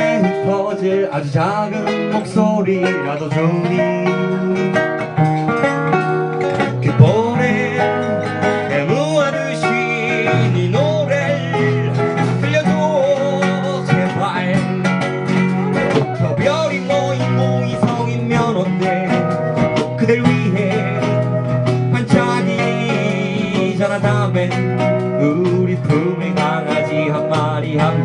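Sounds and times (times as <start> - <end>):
plucked guitar: 0.0 - 28.0
bending sliding melody line: 1.6 - 28.0
steady bass line: 3.7 - 28.0.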